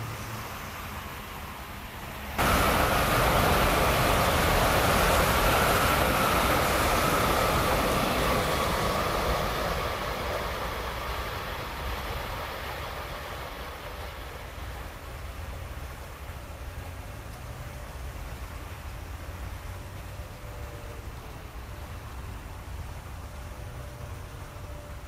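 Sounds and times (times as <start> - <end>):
high-speed train rushing past: 0.0 - 25.0.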